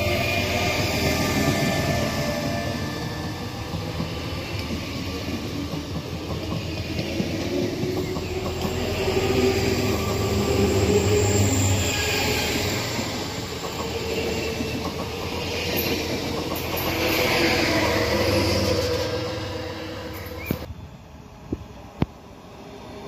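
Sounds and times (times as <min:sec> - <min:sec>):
electric train rumbling past: 0:00.0 - 0:23.0.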